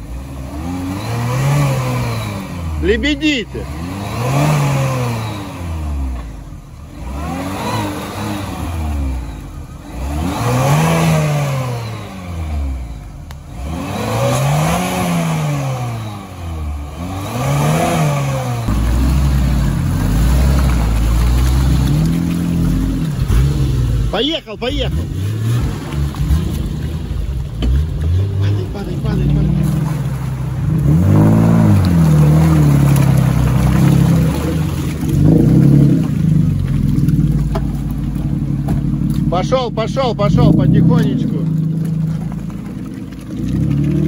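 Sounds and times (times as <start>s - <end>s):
vehicle engine revving: 0.0s - 44.0s.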